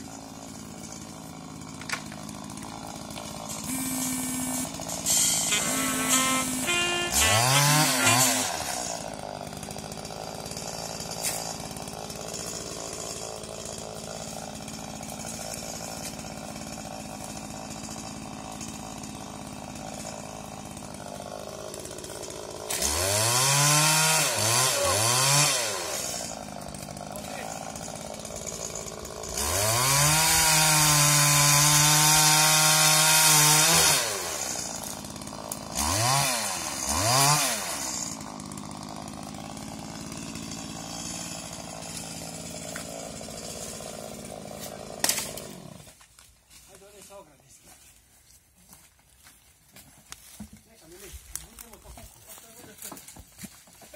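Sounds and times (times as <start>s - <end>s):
pole saw engine revving: 0.0s - 46.0s
chain cutting branches: 0.0s - 47.3s, 50.1s - 53.9s.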